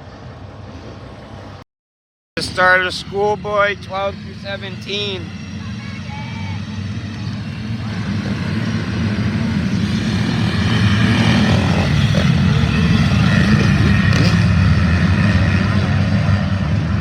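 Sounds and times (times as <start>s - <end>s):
motocross bikes engines: 2.4s - 17.0s.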